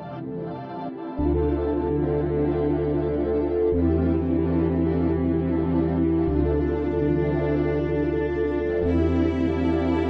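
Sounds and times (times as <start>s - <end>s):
ambient background music: 0.0s - 10.0s.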